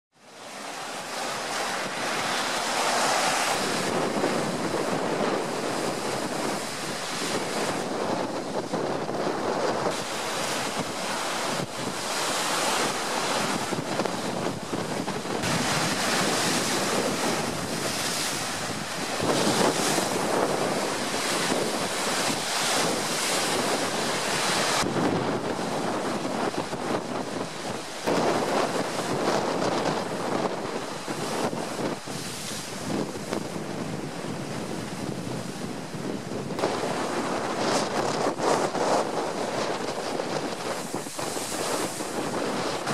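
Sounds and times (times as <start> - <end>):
waves splashing against wall: 0.2 - 42.9
wind gusting over microphone: 0.2 - 42.9.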